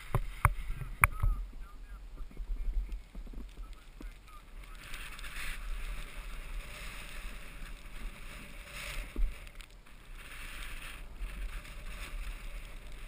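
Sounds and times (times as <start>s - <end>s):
skis scraping over packed snow: 0.0s - 13.0s
wind rumble on microphone: 0.0s - 13.0s.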